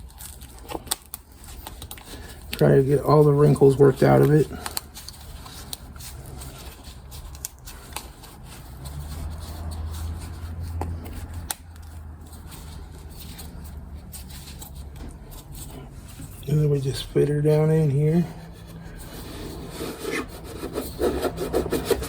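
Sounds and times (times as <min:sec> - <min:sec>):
hands rustling and rubbing wick: 0:00.0 - 0:22.0.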